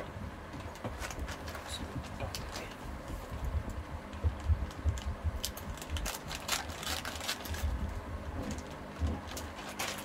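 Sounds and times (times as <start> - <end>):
packaging crackling and rustling: 0.6 - 2.8, 4.2 - 10.0.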